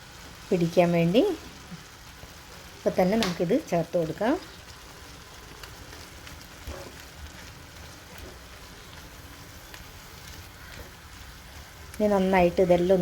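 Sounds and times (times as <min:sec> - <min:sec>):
mushrooms sizzling in butter: 0:00.0 - 0:13.0.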